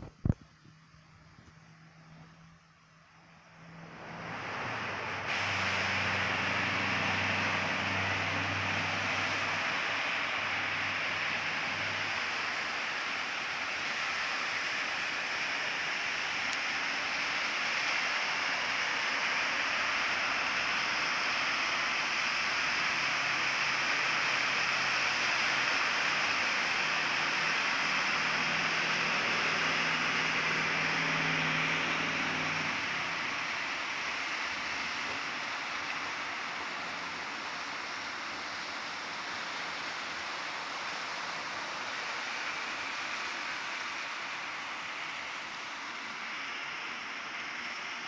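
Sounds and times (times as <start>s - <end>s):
heavy rain falling: 3.5s - 48.0s.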